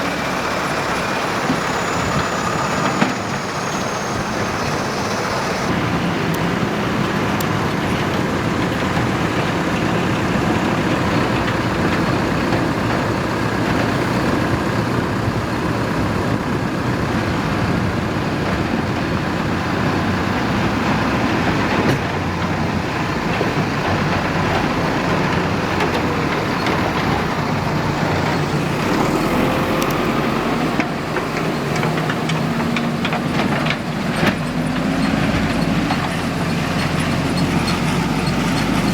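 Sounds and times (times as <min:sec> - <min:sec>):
heavy machinery diesel engines: 0:00.0 - 0:38.9.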